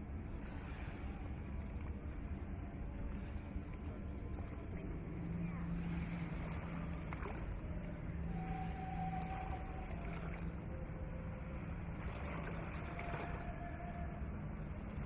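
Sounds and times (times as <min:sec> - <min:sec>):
ship engine rumble: 0:00.0 - 0:15.0
faint high held tones: 0:00.1 - 0:15.0.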